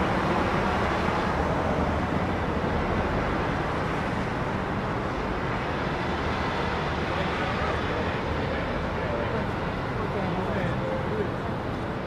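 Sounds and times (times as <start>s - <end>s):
city street traffic hum: 0.0s - 12.0s.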